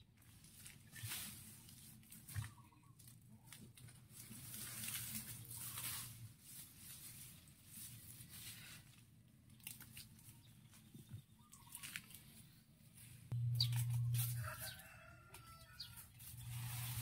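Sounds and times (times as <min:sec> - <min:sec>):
grass and leaves rustling: 0:00.1 - 0:10.9, 0:11.6 - 0:17.0.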